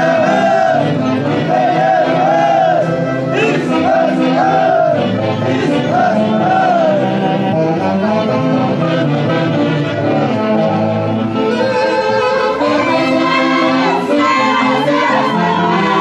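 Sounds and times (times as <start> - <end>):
folk orchestra playing melody: 0.0 - 16.0.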